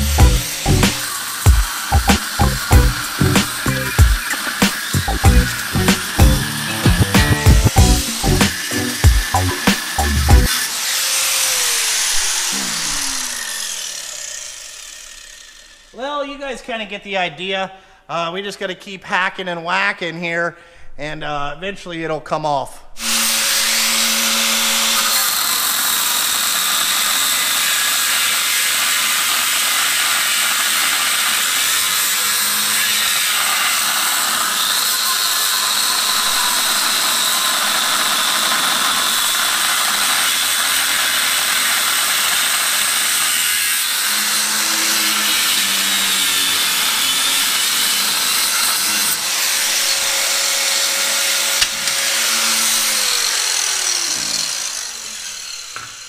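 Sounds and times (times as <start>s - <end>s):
power tool grinding steel: 0.0s - 16.0s, 23.0s - 56.0s.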